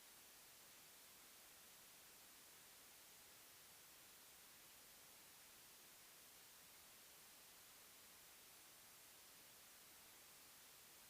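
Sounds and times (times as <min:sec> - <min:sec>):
faint white-noise hiss: 0:00.0 - 0:11.0.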